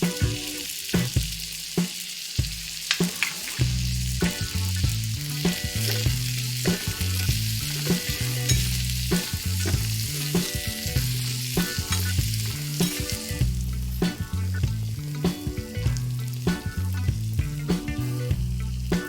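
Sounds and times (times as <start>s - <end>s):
food sizzling in hot oil: 0.0s - 19.0s
background music: 3.6s - 19.0s.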